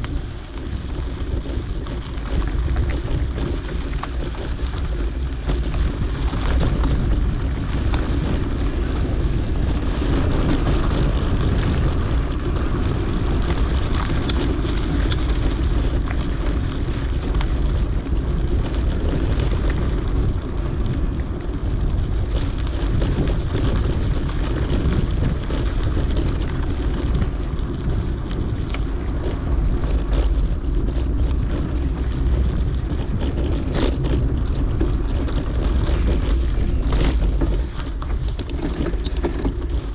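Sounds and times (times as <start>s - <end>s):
bike rolling on dirt trail: 0.0s - 39.9s
wind buffeting microphone: 0.0s - 39.9s.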